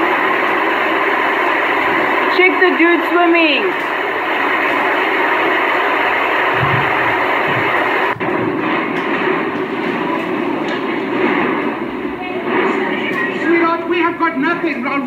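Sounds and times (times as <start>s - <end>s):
driving rain: 0.0s - 12.6s
storm wind roaring: 0.0s - 15.0s.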